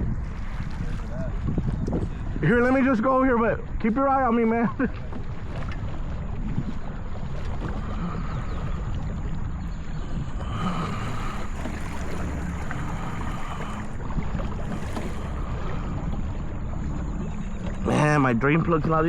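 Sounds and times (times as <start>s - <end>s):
water moving past hull: 0.0s - 19.0s
wind on microphone: 0.0s - 19.0s.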